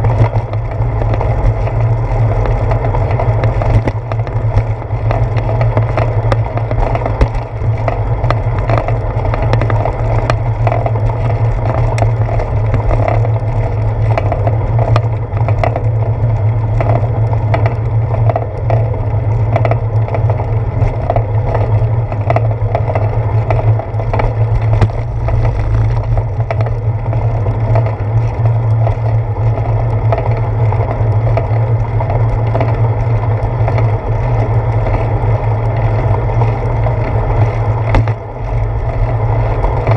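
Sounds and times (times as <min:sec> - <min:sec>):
bicycle rolling on concrete: 0:00.0 - 0:39.9.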